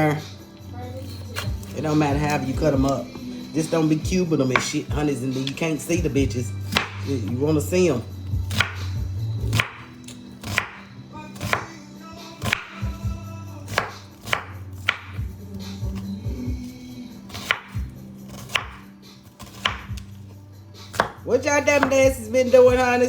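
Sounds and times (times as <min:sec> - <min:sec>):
knife chopping on cutting board: 0:01.0 - 0:03.3, 0:04.4 - 0:07.5, 0:08.4 - 0:11.8, 0:12.4 - 0:23.0.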